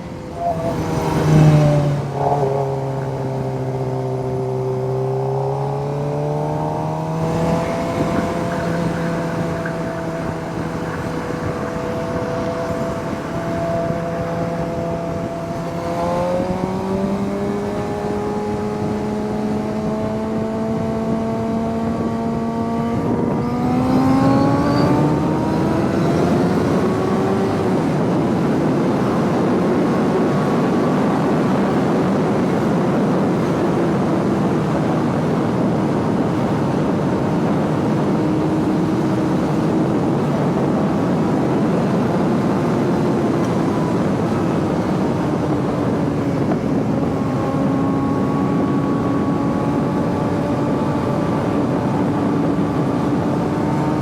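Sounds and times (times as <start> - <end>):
heavy wind rush: 0.0 - 54.0
motorcycle engine accelerating: 0.0 - 54.0.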